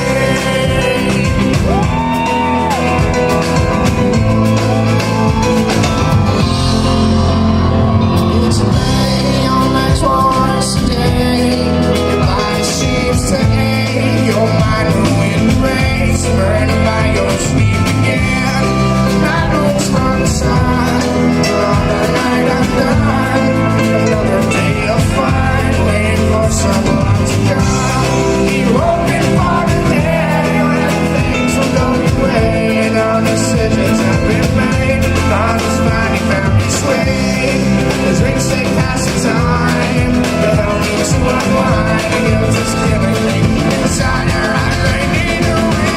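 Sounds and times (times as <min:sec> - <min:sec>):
drums with cymbal hits: 0:00.0 - 0:45.9
live rock band jamming: 0:00.0 - 0:45.9
sustained bass notes: 0:00.0 - 0:45.9.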